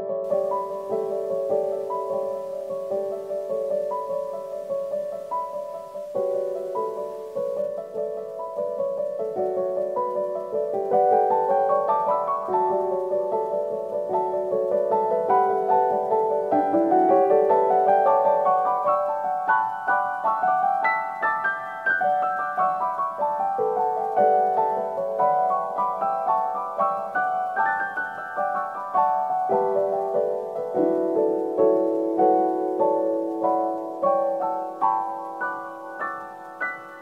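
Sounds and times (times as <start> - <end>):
gentle piano melody: 0.0 - 37.0.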